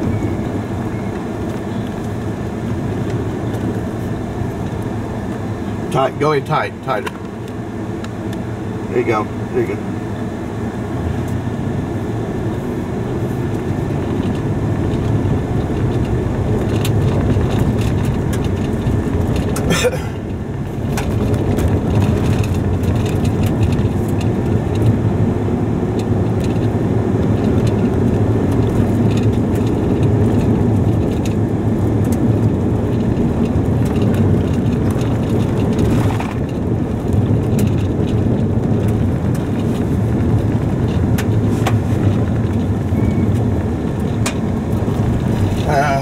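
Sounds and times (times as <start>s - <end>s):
car engine and tyres rumbling: 0.0s - 46.0s.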